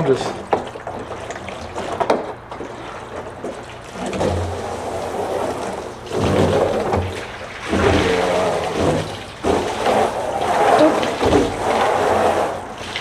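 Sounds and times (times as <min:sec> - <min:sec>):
water pouring into a container: 0:02.6 - 0:13.0.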